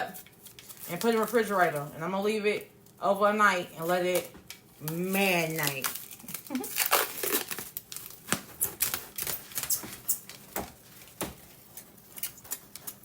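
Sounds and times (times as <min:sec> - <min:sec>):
plastic cling wrap crinkling: 0:00.0 - 0:13.0.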